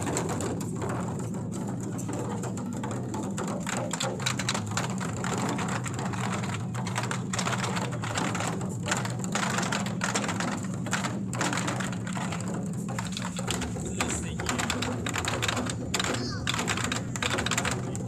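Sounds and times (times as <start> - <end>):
large barrel drums beating: 0.0 - 18.0.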